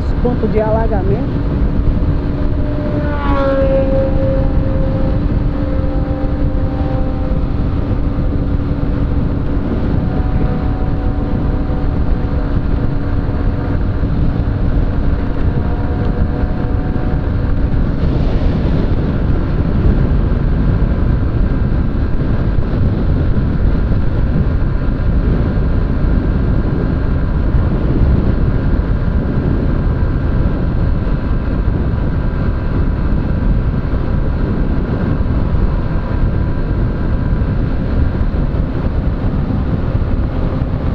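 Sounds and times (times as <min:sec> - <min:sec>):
motorcycle engine hum: 0:00.0 - 0:40.9
wind rumble on microphone: 0:00.0 - 0:40.9.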